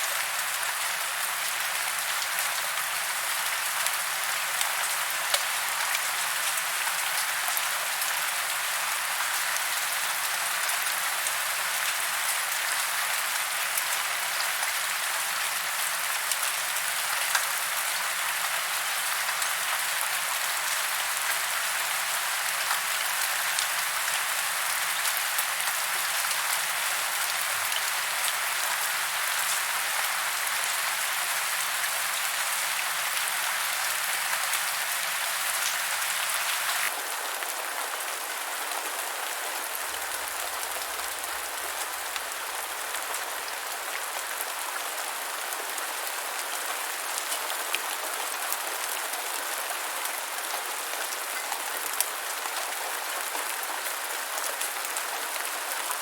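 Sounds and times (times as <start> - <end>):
dense rain falling: 0.0 - 56.0.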